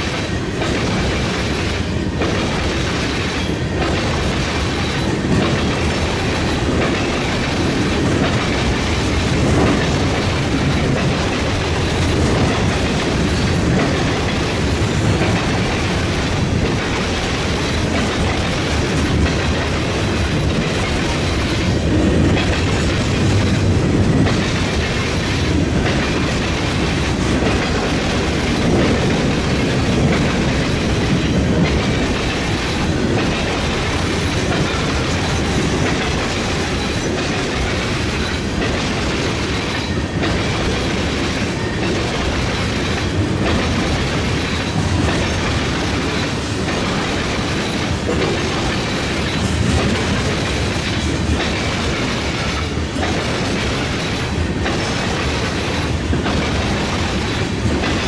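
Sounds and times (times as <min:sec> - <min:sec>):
low rumble of train: 0:00.0 - 0:58.0
train wheels clattering: 0:00.0 - 0:58.0.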